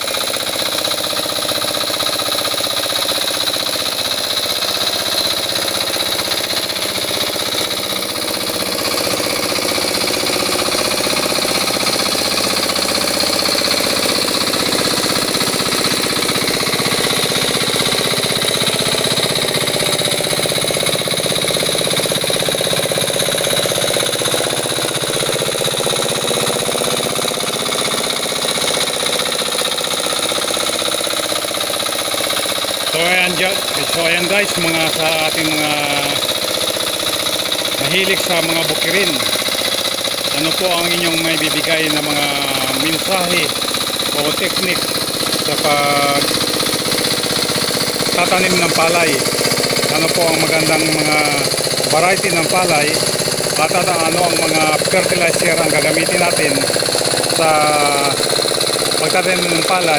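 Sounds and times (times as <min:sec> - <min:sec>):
small tractor engine running: 0:00.0 - 0:59.9.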